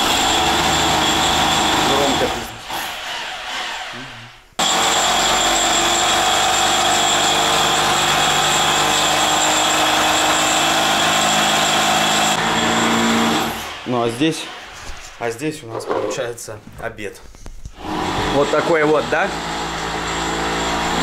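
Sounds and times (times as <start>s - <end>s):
power tool cutting concrete: 0.0s - 15.2s, 17.8s - 21.0s.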